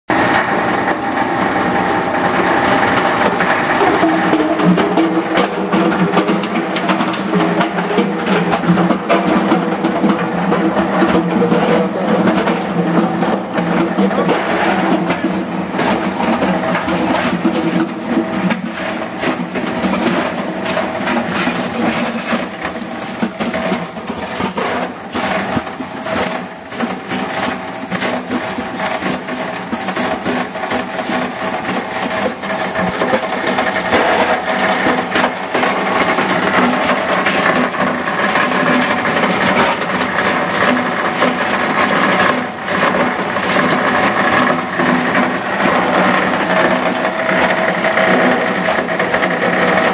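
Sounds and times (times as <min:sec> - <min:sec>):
granulator machine hum: 0:00.1 - 0:49.9.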